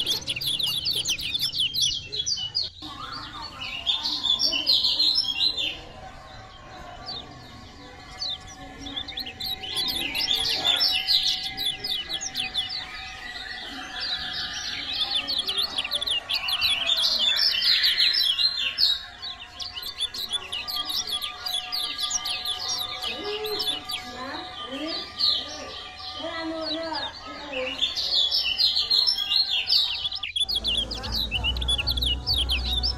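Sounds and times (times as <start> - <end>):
bird twittering song: 0.0 - 32.9.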